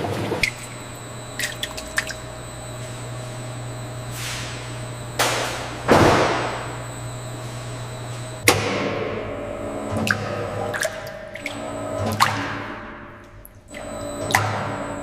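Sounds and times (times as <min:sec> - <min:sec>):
steady low machine hum: 0:00.0 - 0:15.0.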